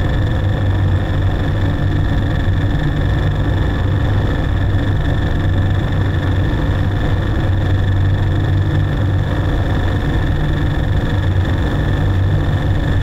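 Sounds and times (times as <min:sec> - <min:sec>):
electronic noise drone: 0:00.0 - 0:13.0.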